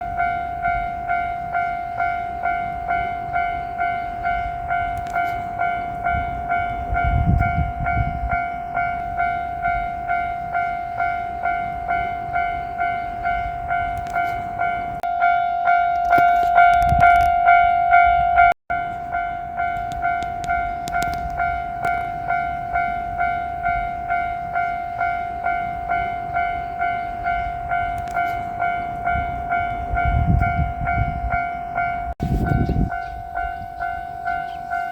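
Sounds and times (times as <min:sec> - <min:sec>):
level crossing electronic bell: 0:00.0 - 0:34.9.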